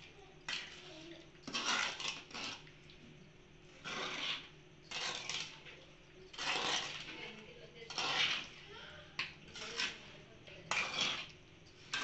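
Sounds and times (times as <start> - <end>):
ladle scraping in a pan: 0.0 - 2.9, 3.6 - 12.0.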